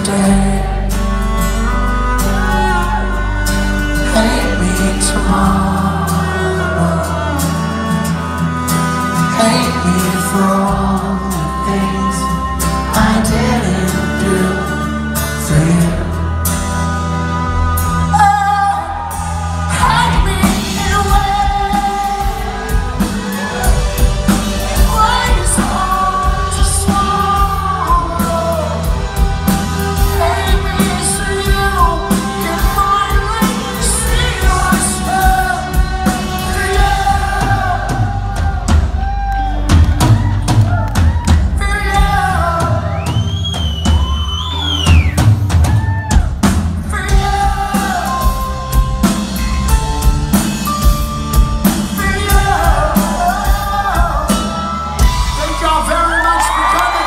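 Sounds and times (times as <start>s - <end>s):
live rock band with singer: 0.0s - 57.0s.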